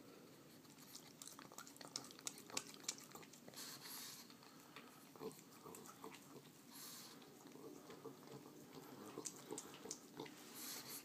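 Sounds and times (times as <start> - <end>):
dog licking with wet smacks: 0.6 - 11.0.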